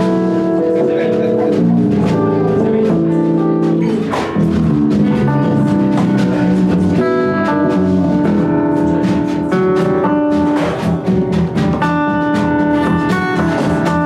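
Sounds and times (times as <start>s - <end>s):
drum kit steady beat: 0.0s - 14.0s
live band playing chords: 0.0s - 14.0s.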